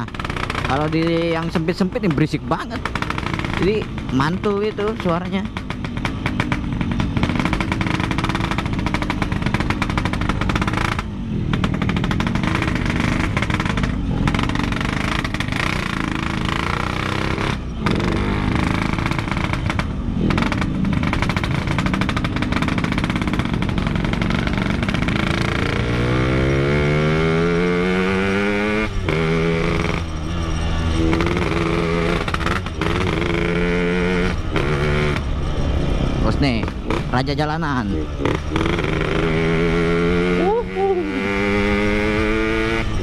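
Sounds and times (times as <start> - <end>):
two-stroke motorcycle engine: 0.0 - 43.0.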